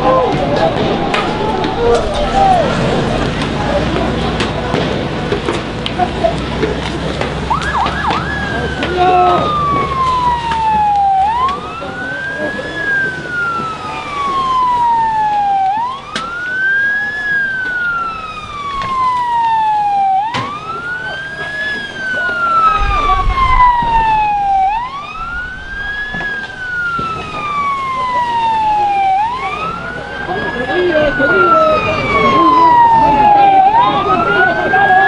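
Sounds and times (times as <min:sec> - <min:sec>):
police siren wailing: 0:00.0 - 0:04.8, 0:07.1 - 0:35.0.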